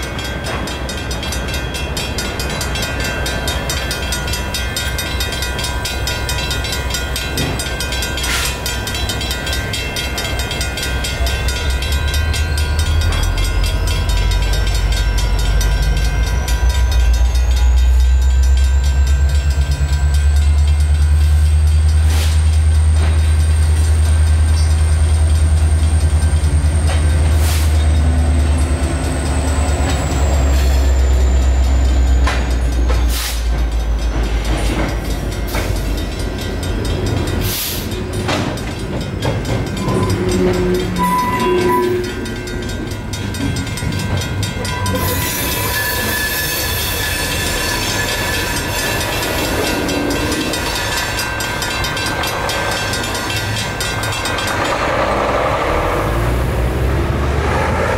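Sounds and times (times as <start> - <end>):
crossing bells ringing: 0.0 - 57.9
wheels clicking over rail joints: 0.0 - 57.9.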